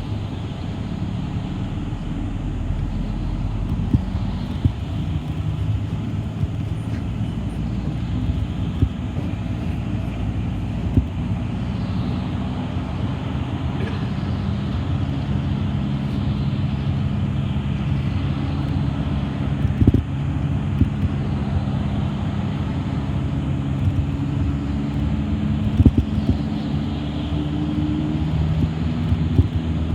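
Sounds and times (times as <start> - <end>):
bus drive hum and road noise: 0.0 - 29.9.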